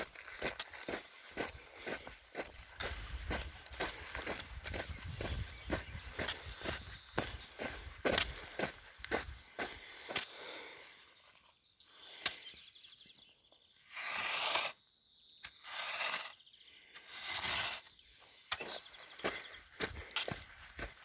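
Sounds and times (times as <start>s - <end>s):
faint bird chirp: 0.8s - 14.0s, 14.6s - 21.0s.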